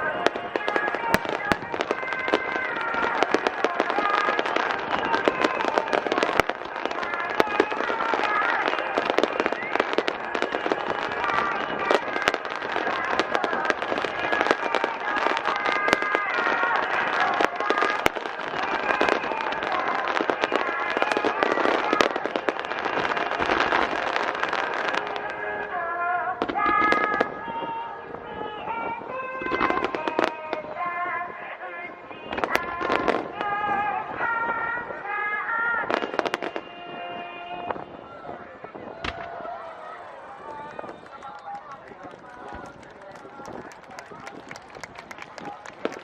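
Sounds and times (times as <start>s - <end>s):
fireworks bangs and crackles: 0.0s - 46.0s
loud fireworks booms: 0.0s - 46.0s.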